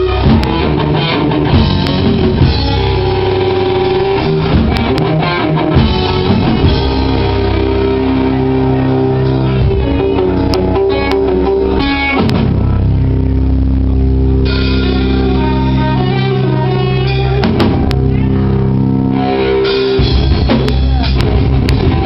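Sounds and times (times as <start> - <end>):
live prog rock band playing: 0.0 - 22.0.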